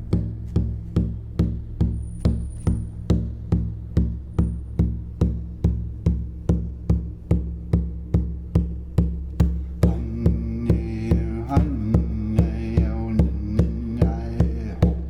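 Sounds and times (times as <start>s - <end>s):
droning tone with overtones: 0.0s - 15.0s
frame drum beating: 0.0s - 15.0s.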